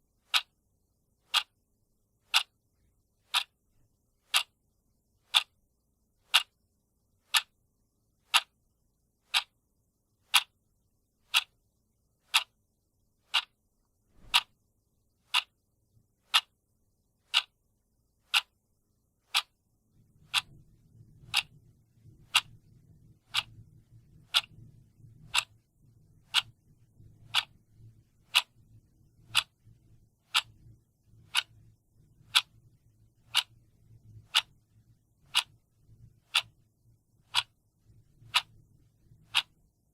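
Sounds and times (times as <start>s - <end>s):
faint low hum: 0.0s - 39.9s
clock ticking: 0.2s - 0.6s, 1.2s - 1.6s, 2.2s - 3.6s, 4.2s - 5.6s, 6.2s - 6.6s, 7.2s - 8.6s, 9.2s - 9.6s, 10.2s - 10.6s, 11.2s - 12.6s, 13.2s - 13.6s, 14.2s - 14.6s, 15.2s - 16.6s, 17.2s - 17.6s, 18.2s - 39.9s.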